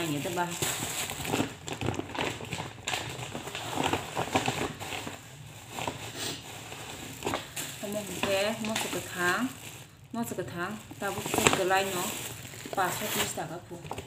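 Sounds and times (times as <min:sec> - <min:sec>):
plastic bags rustling and crinkling: 0:00.0 - 0:14.0.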